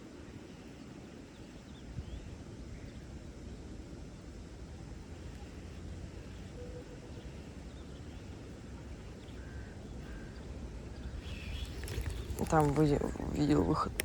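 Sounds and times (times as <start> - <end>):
steady low rumble: 1.5 - 14.0.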